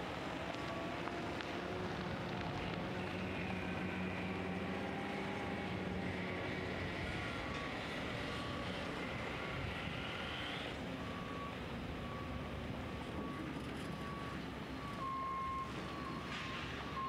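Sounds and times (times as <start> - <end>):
hum of machinery and traffic: 0.0 - 17.0.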